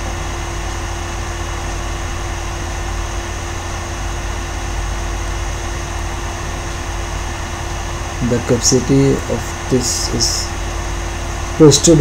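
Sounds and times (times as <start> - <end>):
air-handling fan drone: 0.0 - 12.0.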